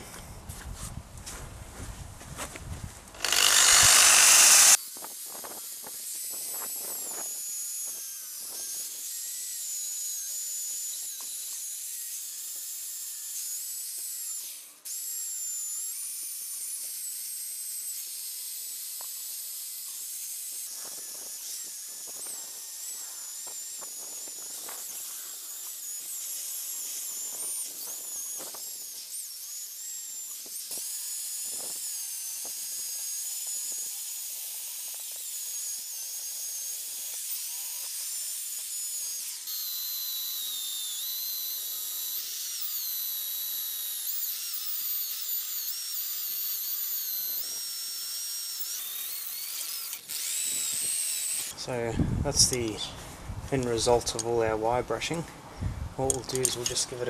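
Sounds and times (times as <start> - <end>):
drill wire brush scratching metal: 3.2 - 14.8, 17.8 - 51.8, 56.0 - 57.0.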